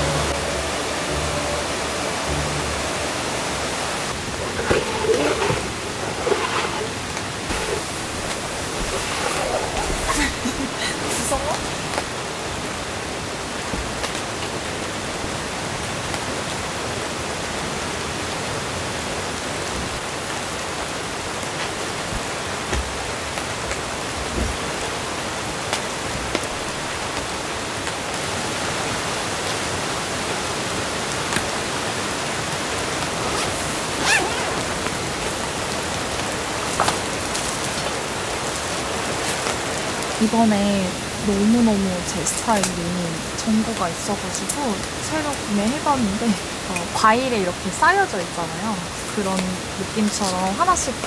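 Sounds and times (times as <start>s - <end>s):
rain on tent canopy: 0.0s - 51.0s.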